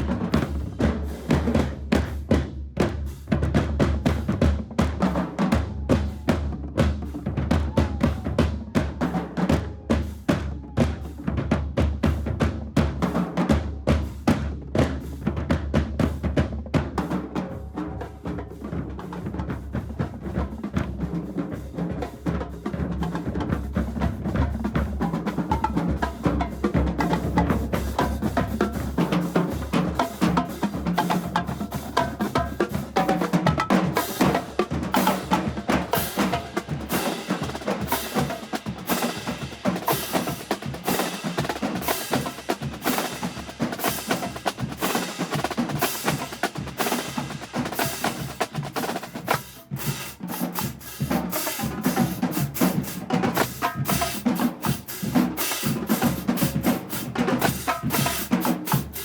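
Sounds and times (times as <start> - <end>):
bass drums: 0.0 - 17.8, 22.5 - 59.0
snare drums: 0.0 - 59.0.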